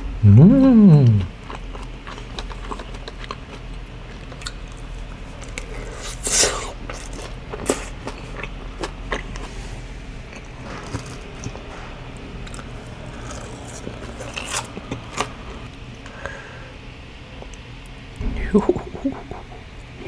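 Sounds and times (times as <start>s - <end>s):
chewing fried chicken: 0.0s - 17.9s.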